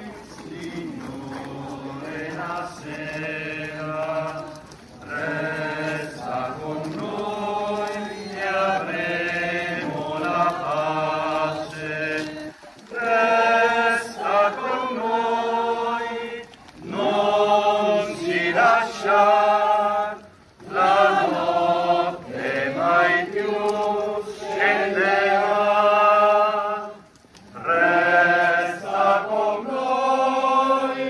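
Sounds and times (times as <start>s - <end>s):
crowd singing a hymn: 0.0s - 31.0s.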